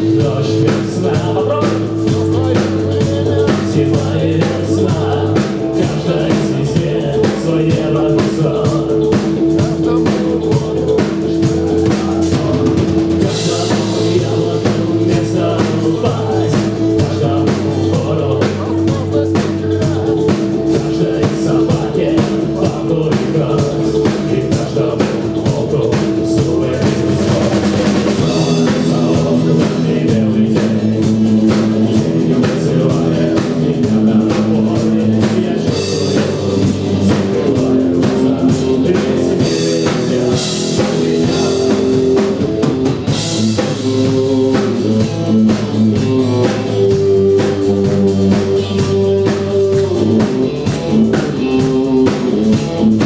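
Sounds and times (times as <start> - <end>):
bass: 0.0 - 53.0
drum kit beat: 0.0 - 53.0
guitar: 0.0 - 53.0.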